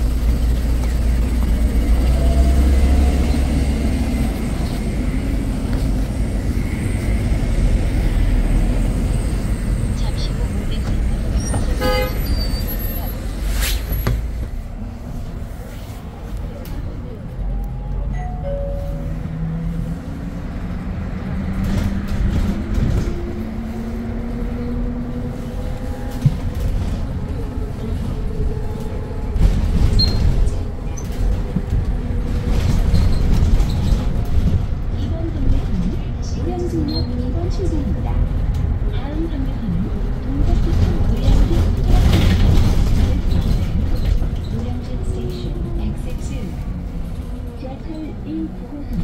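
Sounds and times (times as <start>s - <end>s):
low rumble of road traffic: 0.0s - 49.0s.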